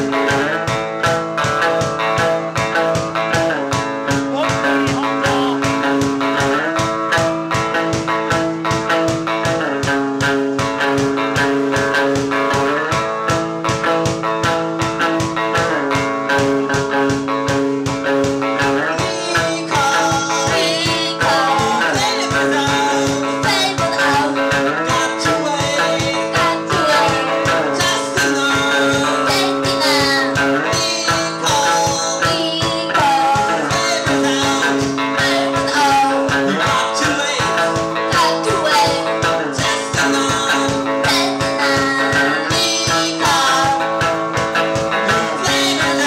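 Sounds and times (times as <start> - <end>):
band playing rock music: 0.0 - 46.0
lead guitar bending notes: 0.0 - 46.0.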